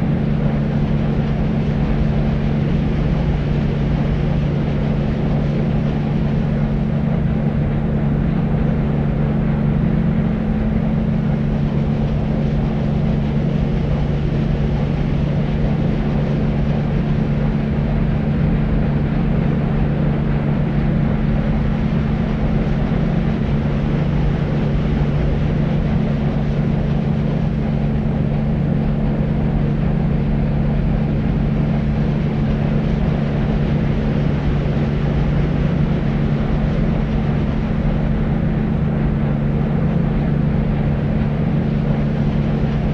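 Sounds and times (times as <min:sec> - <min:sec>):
constant low hum: 0:00.0 - 0:42.9
deep white noise: 0:00.0 - 0:42.9.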